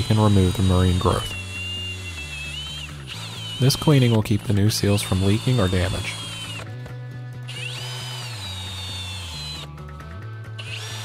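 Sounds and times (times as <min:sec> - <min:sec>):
drill wire brush whining: 0:00.0 - 0:11.0.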